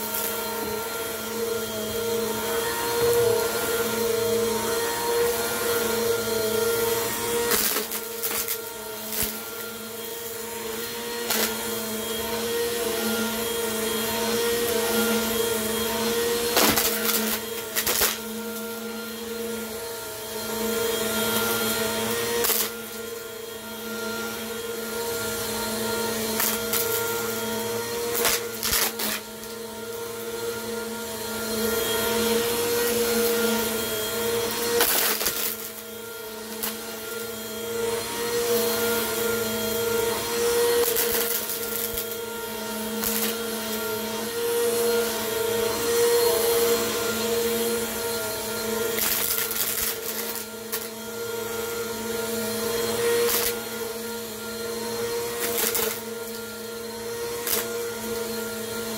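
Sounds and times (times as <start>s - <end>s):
vacuum cleaner motor hum: 0.0s - 58.9s.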